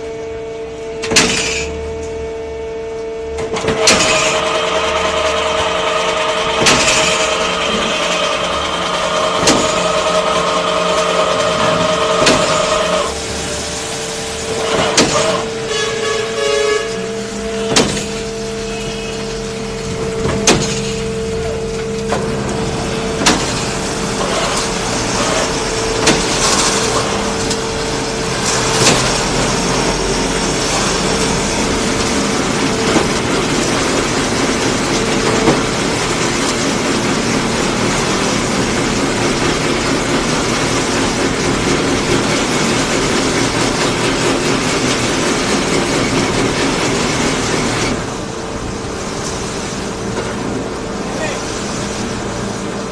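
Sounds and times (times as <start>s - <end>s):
concrete mixer machinery noise: 0.0s - 52.9s.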